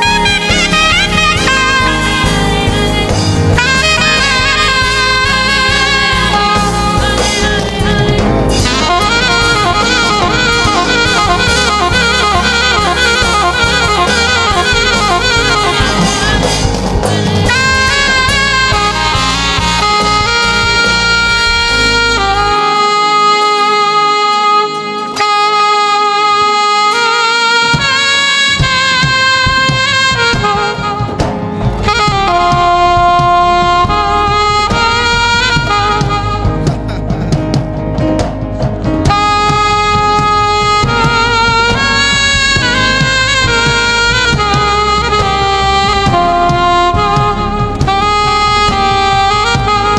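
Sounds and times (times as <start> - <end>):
drum kit: 0.0 - 49.9
live band music: 0.0 - 49.9
saxophone melody: 0.0 - 49.9.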